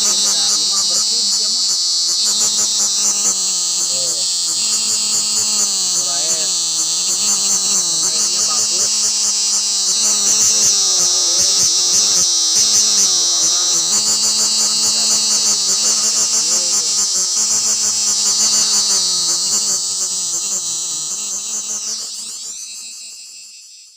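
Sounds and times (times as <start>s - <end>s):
cicada buzzing: 0.0s - 23.9s.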